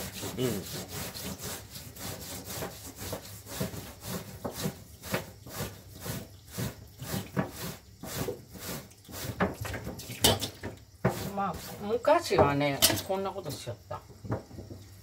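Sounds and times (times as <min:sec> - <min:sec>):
metal pad scrubbing root: 0:00.0 - 0:13.2.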